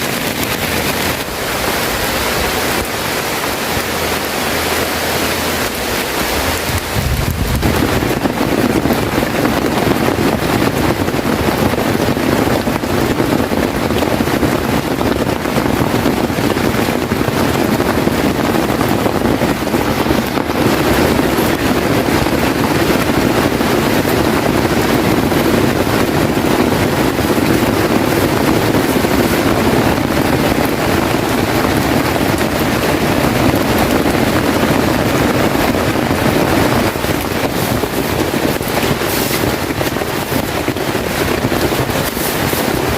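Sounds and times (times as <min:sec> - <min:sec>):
heavy rain falling: 0:00.0 - 0:42.9
wind buffeting microphone: 0:00.0 - 0:42.9.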